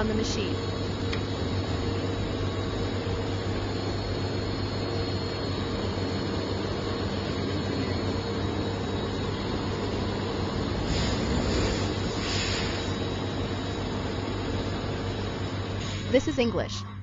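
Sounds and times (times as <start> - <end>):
machinery hum with hiss: 0.0 - 17.0.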